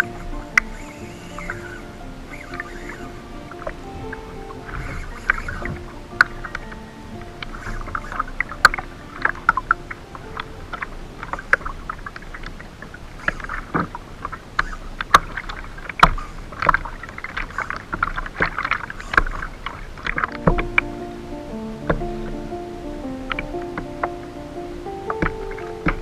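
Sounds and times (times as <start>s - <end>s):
water slapping against kayak hull: 0.0s - 21.1s, 21.7s - 22.6s, 25.1s - 26.0s
sharp knocks and clicks: 0.0s - 22.4s, 23.1s - 24.3s, 24.9s - 26.0s.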